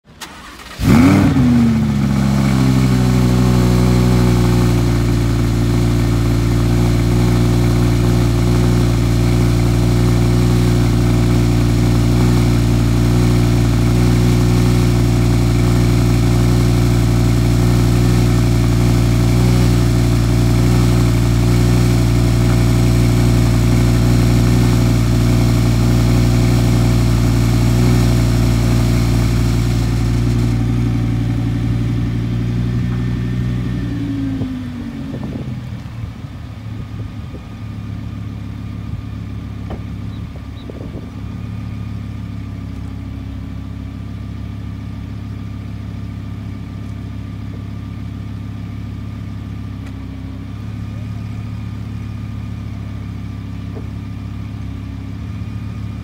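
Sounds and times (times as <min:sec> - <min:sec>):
car engine starting and idling: 0:00.0 - 0:56.0.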